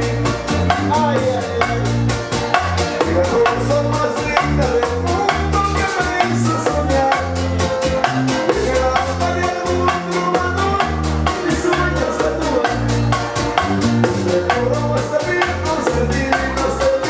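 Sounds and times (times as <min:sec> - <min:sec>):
bass line: 0:00.0 - 0:17.0
hand percussion: 0:00.0 - 0:17.0
plucked guitar melody: 0:00.0 - 0:17.0.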